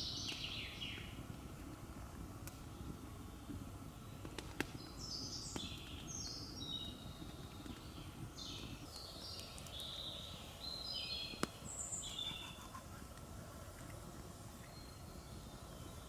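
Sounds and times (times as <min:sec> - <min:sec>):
songbird singing: 0:00.0 - 0:01.3, 0:02.6 - 0:16.0
low background noise: 0:00.0 - 0:16.0.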